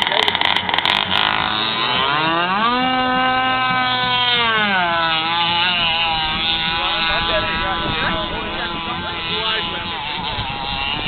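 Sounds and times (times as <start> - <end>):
model speedboat motor revving: 0.0 - 11.0.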